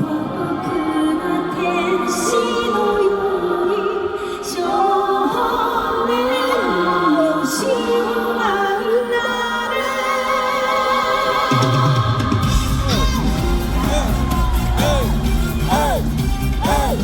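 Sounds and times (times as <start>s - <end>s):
woman singing with vibrato: 0.0s - 17.0s.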